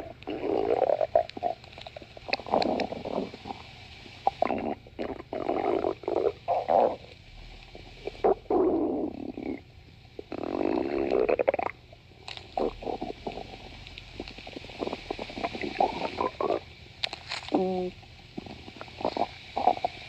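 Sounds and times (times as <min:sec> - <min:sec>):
stomach growling: 0:00.0 - 0:20.0.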